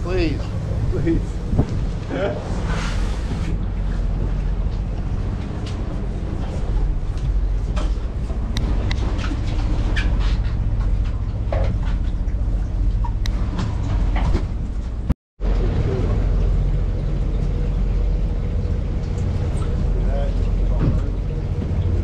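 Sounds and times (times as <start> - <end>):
boat machinery droning: 0.0 - 22.0.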